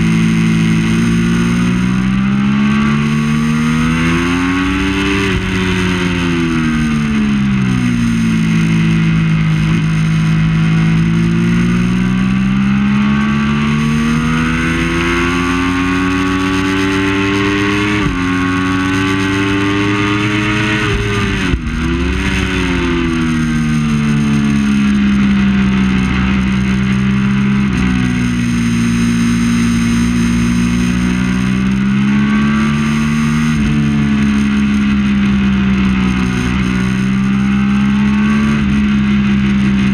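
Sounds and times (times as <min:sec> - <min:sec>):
motorcycle engine revving at speed: 0:00.0 - 0:39.9.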